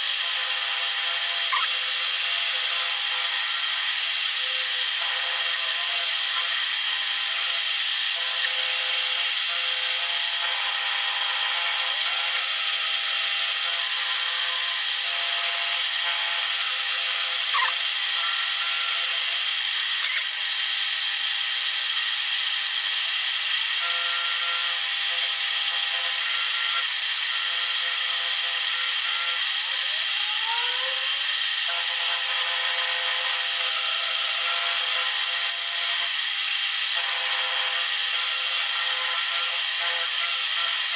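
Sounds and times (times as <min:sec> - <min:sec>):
power tool motor whine: 0:00.0 - 0:40.9.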